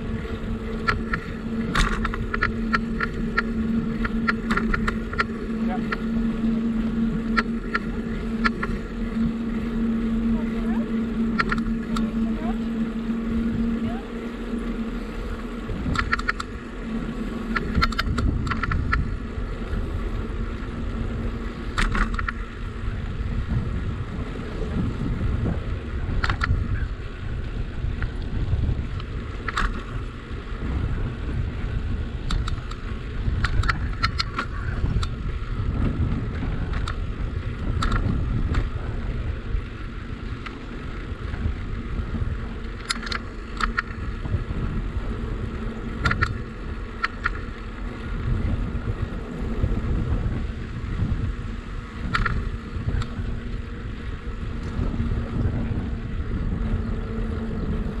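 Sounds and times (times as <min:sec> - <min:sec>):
light rattles and clicks: 0:00.0 - 0:23.7, 0:24.8 - 0:51.3, 0:51.9 - 0:58.0
tyre and wind rumble: 0:00.0 - 0:58.0.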